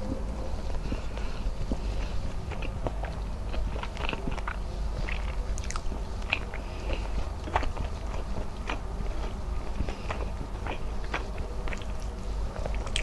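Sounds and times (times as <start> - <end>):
close chewing with wet clicks: 0.6 - 13.0.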